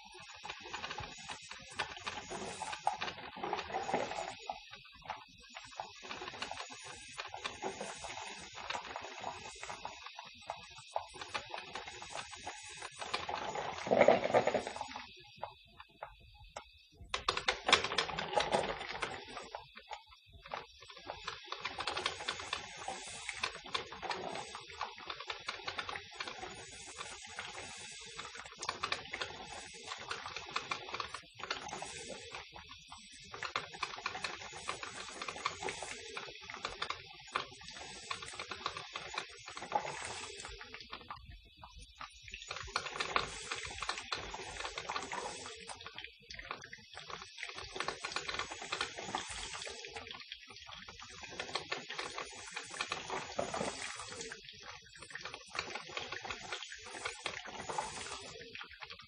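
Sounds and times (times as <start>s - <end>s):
coffee maker gurgling and sputtering: 0.0s - 59.0s.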